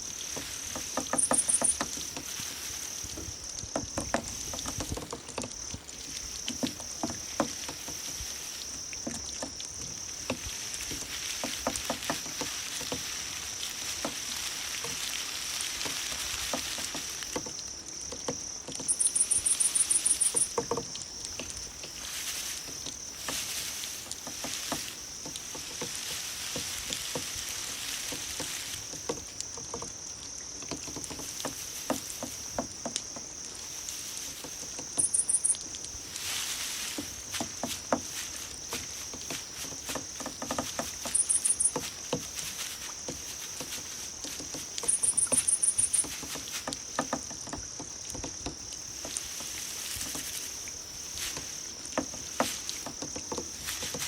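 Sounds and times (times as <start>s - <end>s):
insects trilling: 0.0s - 54.0s
rapid pulsed insect chirp: 0.0s - 54.0s
light clicks and patter: 0.2s - 54.0s.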